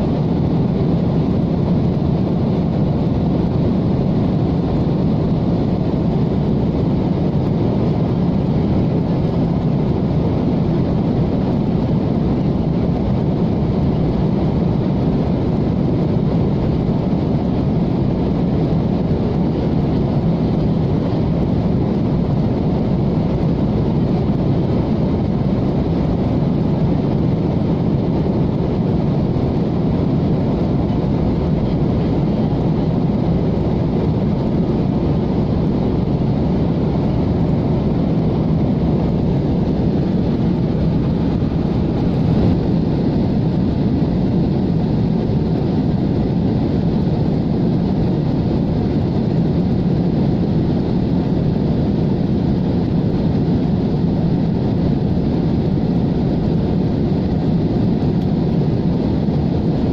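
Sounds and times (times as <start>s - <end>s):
air rushing along fuselage: 0.0s - 59.9s
jet engines drone: 0.0s - 59.9s.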